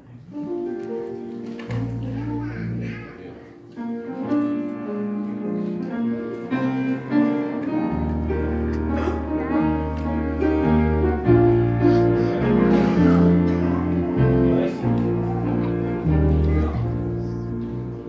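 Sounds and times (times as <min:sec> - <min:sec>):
keyboard chords: 0:00.0 - 0:18.0.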